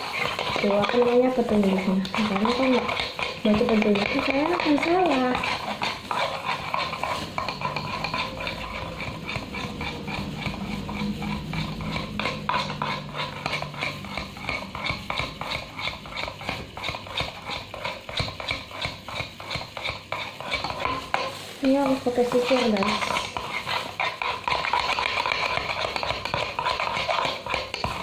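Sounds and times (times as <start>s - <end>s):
stirrer scraping a small bowl: 0.0s - 28.0s.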